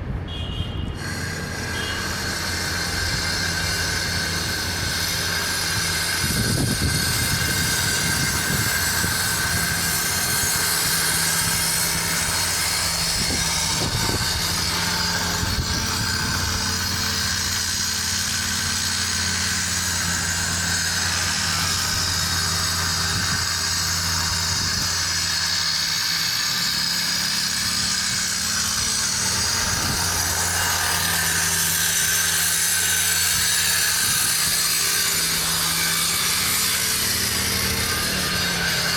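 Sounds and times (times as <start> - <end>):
city street noise: 0.0 - 38.9
thin high whine: 1.0 - 38.9.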